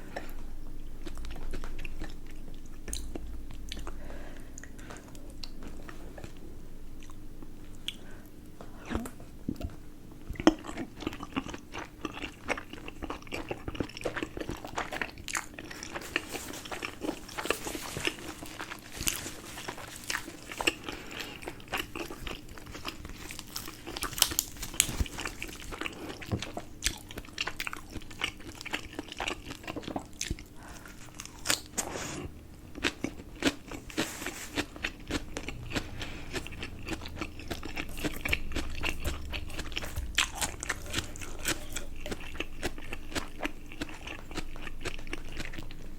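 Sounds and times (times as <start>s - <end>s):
chewing and biting dumplings: 0.0s - 45.9s.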